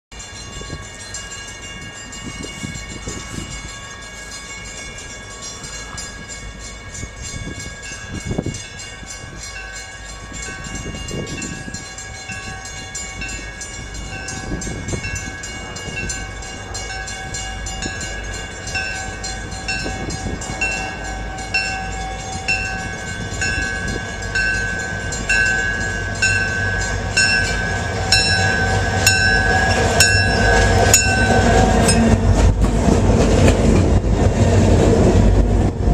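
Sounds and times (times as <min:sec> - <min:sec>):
crossing bell ringing: 0:00.1 - 0:32.6
diesel locomotive engine rumble: 0:00.1 - 0:35.9.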